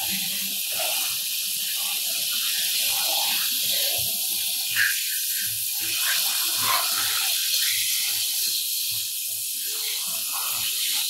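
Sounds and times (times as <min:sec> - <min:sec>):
hose water spray hissing: 0:00.0 - 0:11.0.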